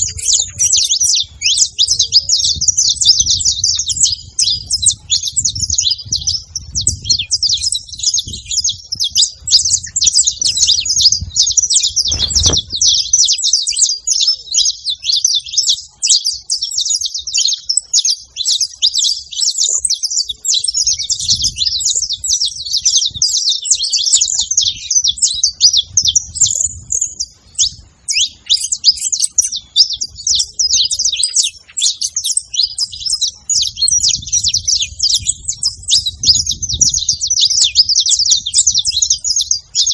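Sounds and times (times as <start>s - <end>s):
finch chirping: 0.0s - 39.9s.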